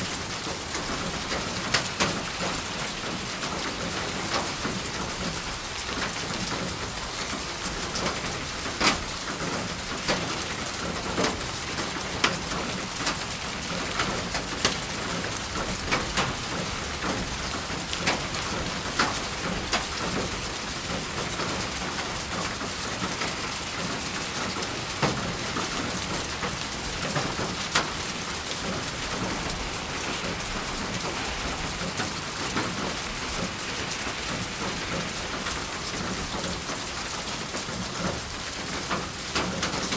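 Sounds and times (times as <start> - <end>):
heavy rain hissing: 0.0 - 39.9
raindrops striking close by: 0.0 - 39.9.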